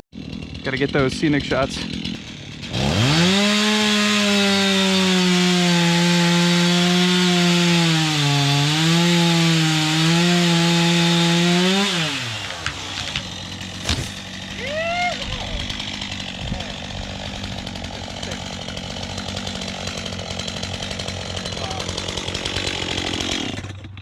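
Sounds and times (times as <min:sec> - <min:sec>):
chainsaw cutting into tree trunk: 0:00.2 - 0:24.0.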